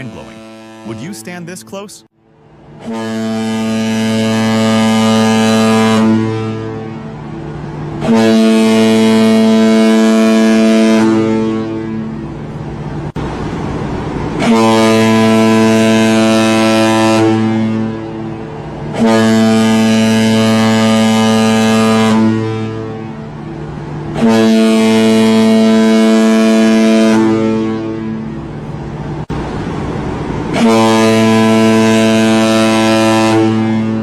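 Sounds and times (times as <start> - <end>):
deep ship's horn blasts: 0.0 - 1.6, 2.3 - 13.5, 14.1 - 34.0.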